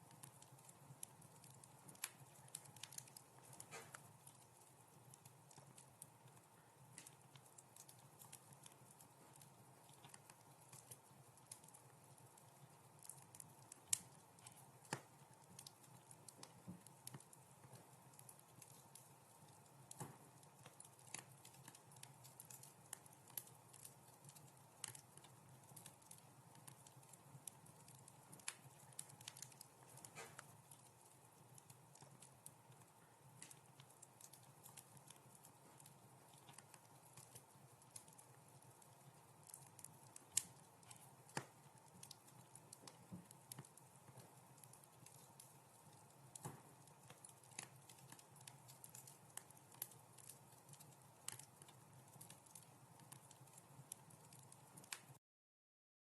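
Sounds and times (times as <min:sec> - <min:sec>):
wood fire crackling: 0:00.0 - 0:55.2.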